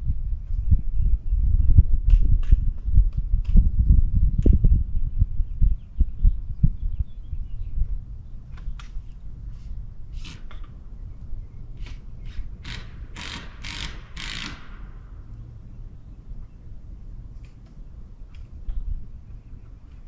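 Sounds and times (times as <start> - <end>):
low steady rumble: 0.0 - 13.1, 14.7 - 20.0.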